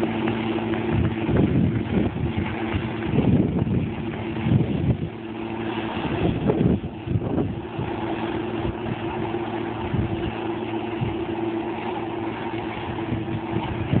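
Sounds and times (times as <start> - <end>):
combine harvester humming: 0.0 - 14.0
low rumbles: 0.0 - 14.0.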